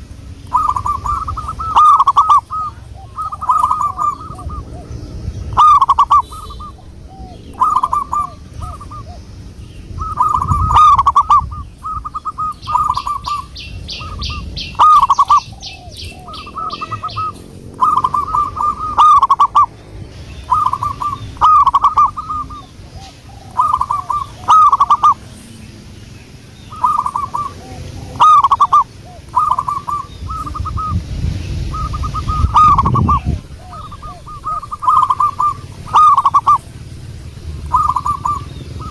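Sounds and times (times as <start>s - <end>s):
dove cooing: 0.0s - 19.8s, 20.4s - 25.6s, 26.6s - 31.0s, 31.7s - 38.9s
bird fast high trill: 0.5s - 4.7s, 5.4s - 9.1s, 9.9s - 25.2s, 26.7s - 27.6s, 28.2s - 36.8s.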